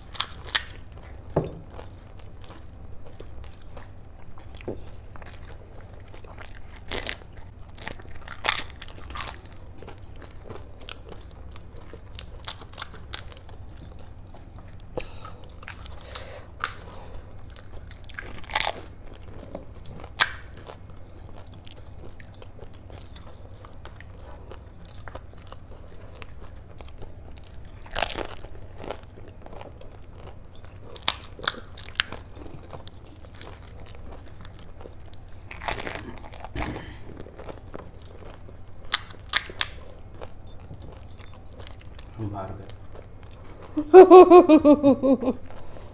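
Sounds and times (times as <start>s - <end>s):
crunching crisp shells: 0.0s - 43.8s.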